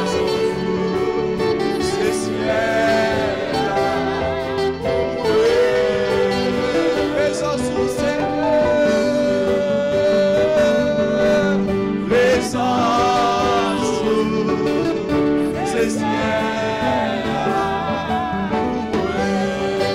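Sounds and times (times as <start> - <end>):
instrumental accompaniment: 0.0 - 19.9
person singing gospel hymn: 0.0 - 19.9.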